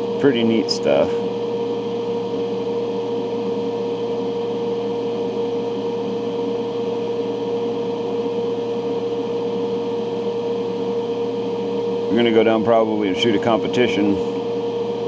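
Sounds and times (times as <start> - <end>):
extraction fan humming and whining: 0.0 - 15.0.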